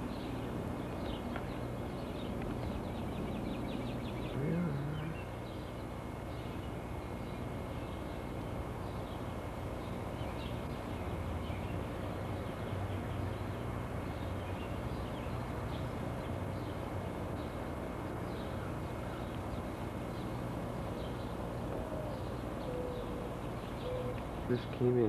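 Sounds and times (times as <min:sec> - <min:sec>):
birds chirping: 0:00.0 - 0:25.0
low outdoor rumble: 0:00.0 - 0:25.0.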